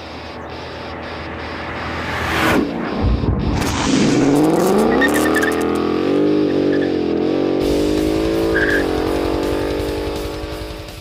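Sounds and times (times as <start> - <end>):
car engine revving: 0.0 - 11.0
guitar intro music: 0.0 - 11.0.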